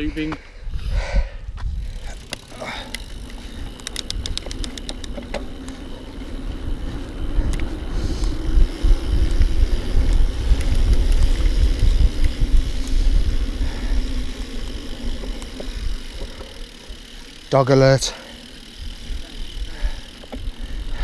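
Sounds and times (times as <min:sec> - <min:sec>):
wind buffeting microphone: 0:00.0 - 0:17.1
bike tyres rumbling over dirt: 0:01.5 - 0:21.0.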